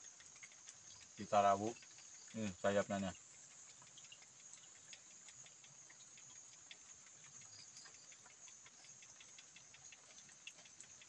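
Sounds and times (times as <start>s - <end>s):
faint ticks: 0.0s - 11.0s
insects chirping: 0.0s - 11.0s.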